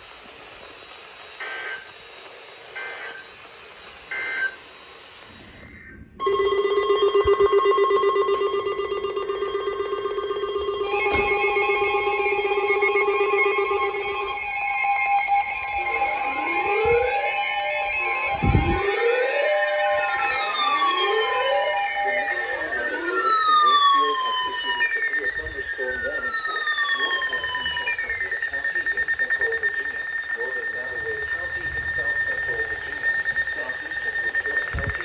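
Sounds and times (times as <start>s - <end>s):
broadcast hiss: 0.0s - 35.0s
data bursts: 0.0s - 35.0s
electronic alert tone: 5.8s - 24.8s, 25.4s - 35.0s.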